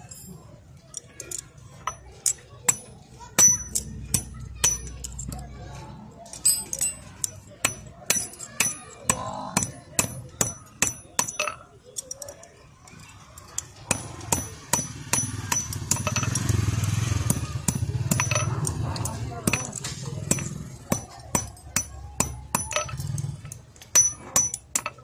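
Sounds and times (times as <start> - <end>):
hammer striking chain link: 0.9 - 5.5, 6.3 - 12.5, 13.4 - 25.0.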